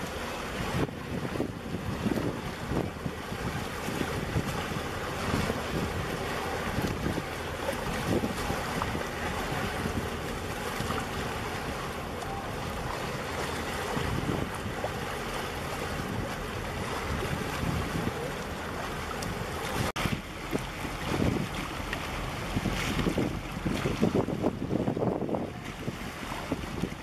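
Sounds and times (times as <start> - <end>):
sea water washing against concrete: 0.0 - 27.0
wind buffeting microphone: 0.0 - 27.0.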